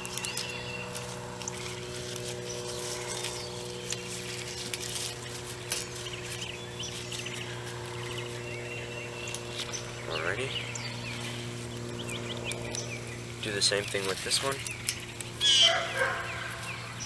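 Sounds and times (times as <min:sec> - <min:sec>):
leaves rustling and crackling: 0:00.0 - 0:17.0
steady low hum: 0:00.0 - 0:17.0.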